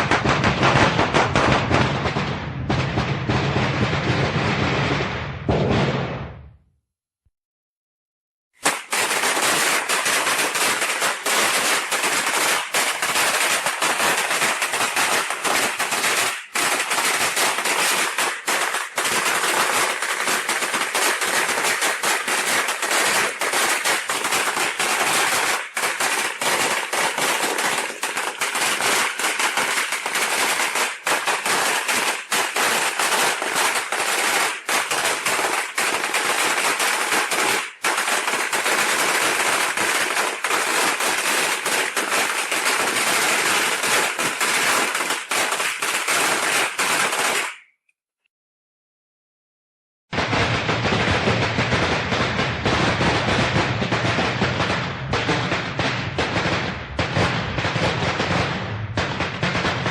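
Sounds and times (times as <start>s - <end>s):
firecrackers crackling: 0.0s - 5.2s, 8.6s - 47.7s, 50.2s - 59.9s.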